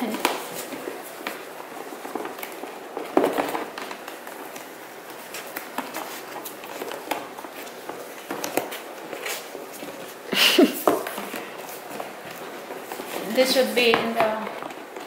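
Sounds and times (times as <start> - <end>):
packaging clicks and crinkles: 0.0 - 15.0.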